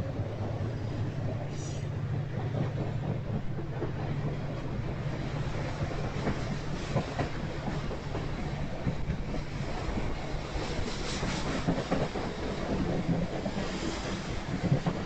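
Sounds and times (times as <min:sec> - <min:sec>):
train rolling past rumbling: 0:00.0 - 0:15.0.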